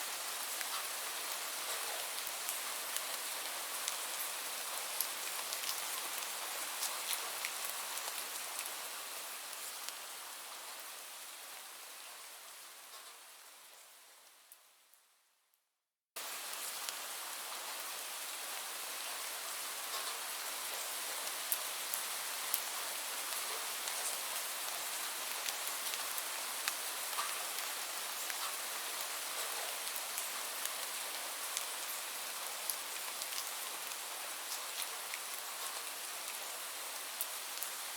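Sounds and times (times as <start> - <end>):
steady rainfall: 0.0 - 14.5, 16.2 - 37.9.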